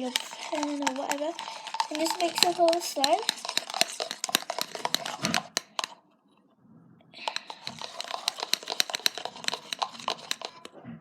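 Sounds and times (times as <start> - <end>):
sticky squelches of stirred slime: 0.0 - 6.0, 7.2 - 10.8.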